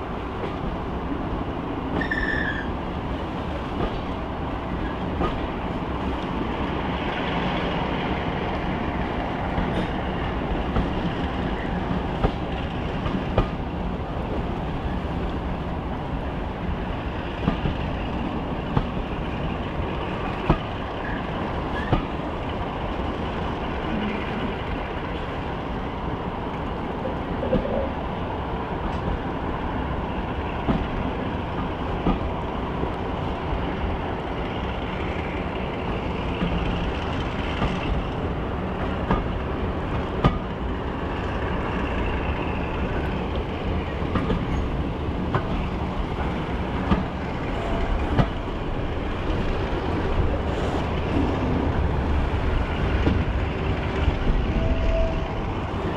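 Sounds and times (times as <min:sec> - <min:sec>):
diesel locomotive engines running: 0:00.0 - 0:55.9
sharp clicks from train: 0:00.0 - 0:55.9.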